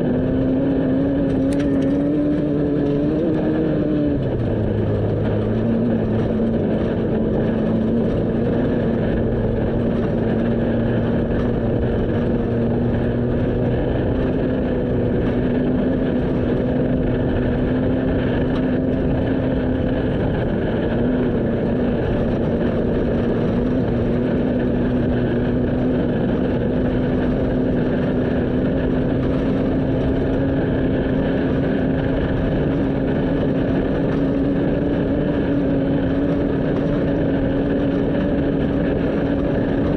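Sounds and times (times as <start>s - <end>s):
vehicle engine running: 0.0s - 39.9s
wind and road noise: 0.0s - 39.9s.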